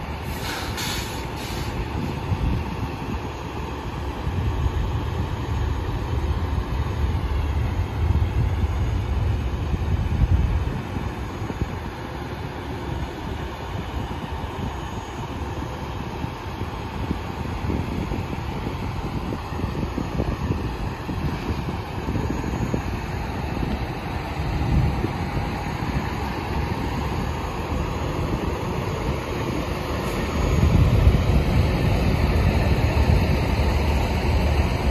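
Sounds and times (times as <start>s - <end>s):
heavy diesel vehicles rumbling: 0.0s - 34.9s
wind buffeting microphone: 0.0s - 34.9s.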